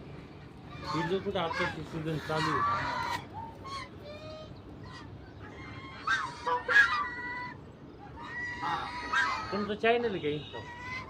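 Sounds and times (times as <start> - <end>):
hens clucking: 0.7 - 11.0
honking calls: 0.8 - 11.0.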